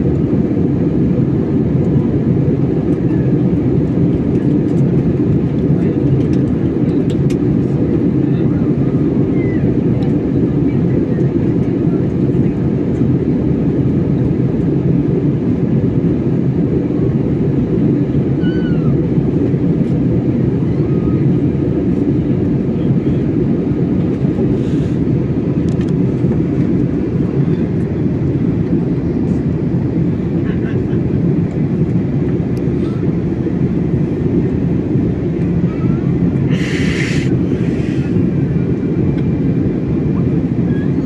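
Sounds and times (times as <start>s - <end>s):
airliner engine rumble in cabin: 0.0s - 41.0s.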